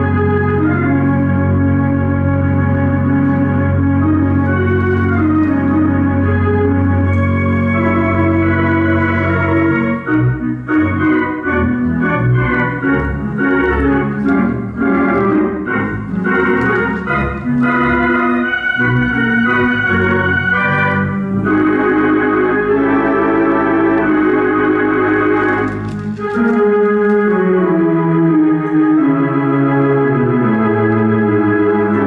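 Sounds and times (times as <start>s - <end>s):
theatre organ playing: 0.0s - 32.0s.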